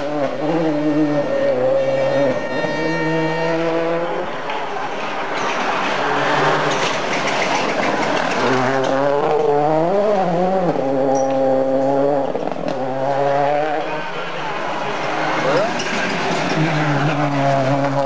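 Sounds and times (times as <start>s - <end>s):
rally car engine: 0.0s - 18.0s
tyre and road noise: 0.0s - 18.0s.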